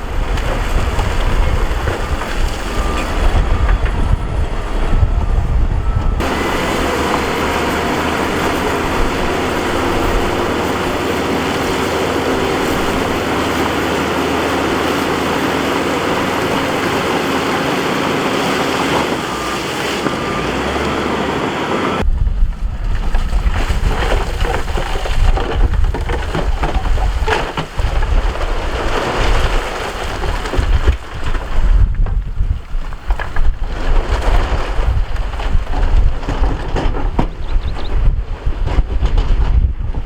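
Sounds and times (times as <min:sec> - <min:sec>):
wind buffeting microphone: 0:00.0 - 0:19.4, 0:21.9 - 0:40.0
diesel engine of earthmoving equipment: 0:00.0 - 0:40.0.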